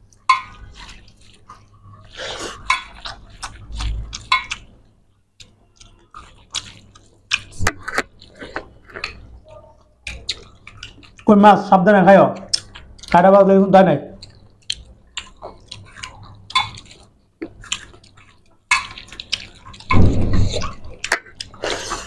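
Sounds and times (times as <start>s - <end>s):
chewing and mouth sounds: 0.0s - 11.4s, 12.3s - 13.5s, 14.1s - 22.0s.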